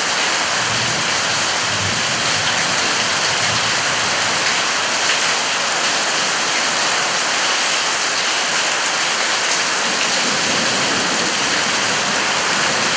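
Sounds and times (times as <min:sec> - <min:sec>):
heavy rain on paving: 0:00.0 - 0:12.9.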